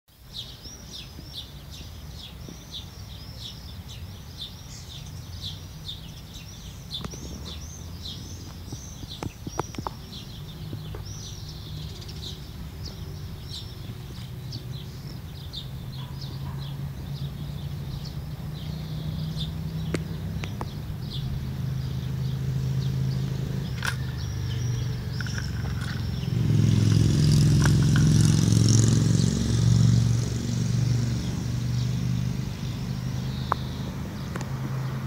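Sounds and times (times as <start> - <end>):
small birds chirping: 0.1 - 35.0.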